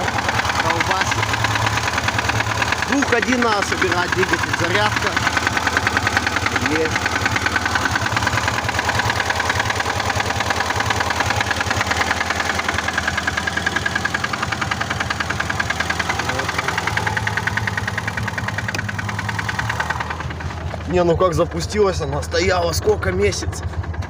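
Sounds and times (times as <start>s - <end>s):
car engine idling roughly: 0.0s - 24.0s.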